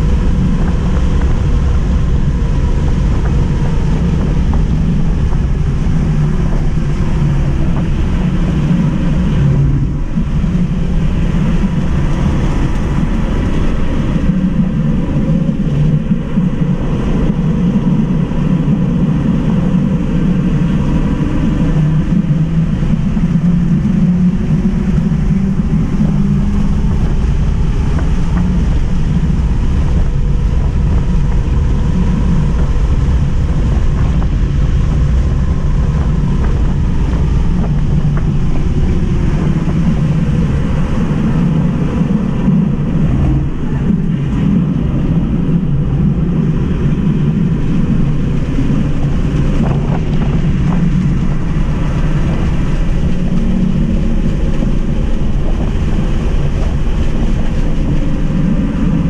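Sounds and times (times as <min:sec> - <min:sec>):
road and wind noise in car: 0:00.0 - 0:59.0.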